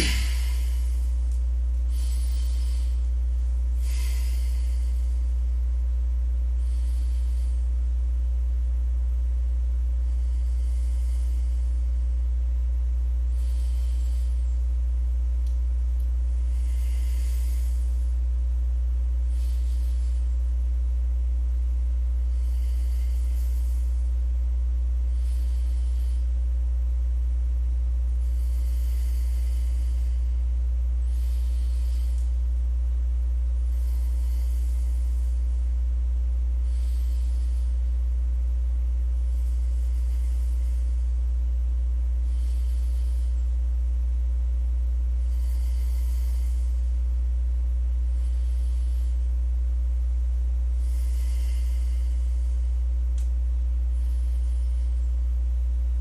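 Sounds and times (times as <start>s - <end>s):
low electrical hum: 0.0s - 56.0s
soft breaths: 0.0s - 56.0s.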